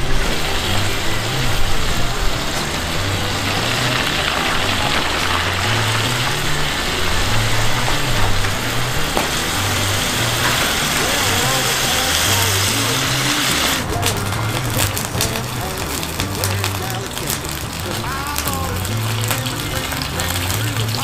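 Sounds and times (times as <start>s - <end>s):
background music with slow bass: 0.0s - 21.0s
camp stove roaring and hissing: 0.0s - 21.0s.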